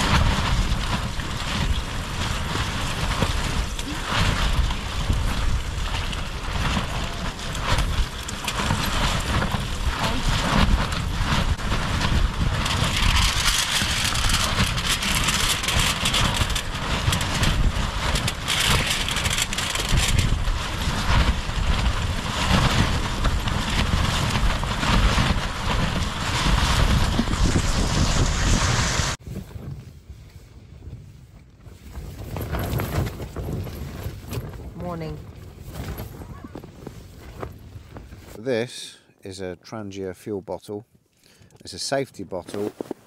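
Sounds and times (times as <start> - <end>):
wind rumbling on microphone: 0.0 - 38.4
tent fabric crackling: 0.0 - 38.8, 42.4 - 43.0.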